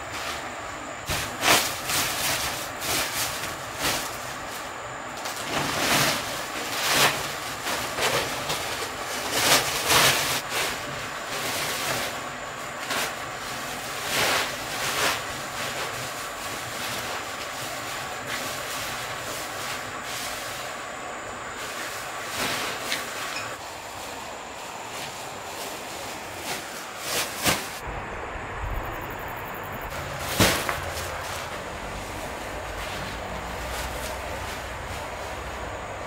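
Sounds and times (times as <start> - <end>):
plastic sack crackling: 0.1 - 27.8, 29.9 - 36.0
shovel scraping wood shavings: 1.1 - 27.8, 29.9 - 35.5.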